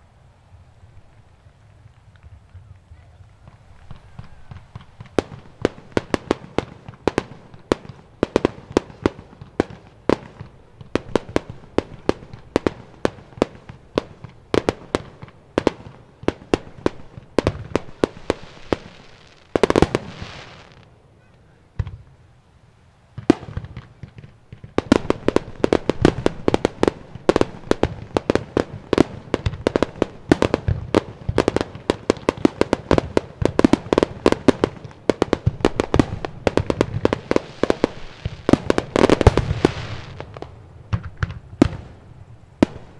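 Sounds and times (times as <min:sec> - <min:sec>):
fireworks crackling hiss: 0:00.0 - 0:42.9
fireworks bangs: 0:00.5 - 0:22.4, 0:23.1 - 0:42.9.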